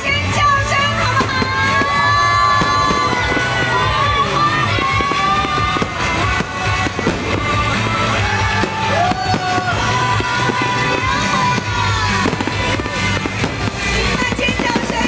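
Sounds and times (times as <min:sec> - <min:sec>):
fireworks bursting and popping: 0:00.0 - 0:15.0
loud music with steady bass: 0:00.0 - 0:15.0.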